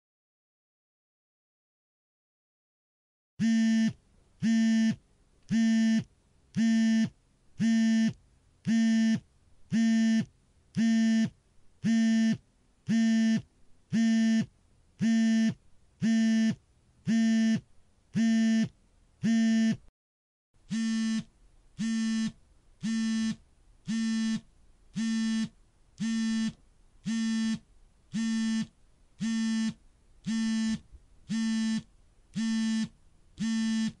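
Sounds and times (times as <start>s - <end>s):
mobile phone vibrating buzz: 3.4s - 19.9s, 20.6s - 34.0s.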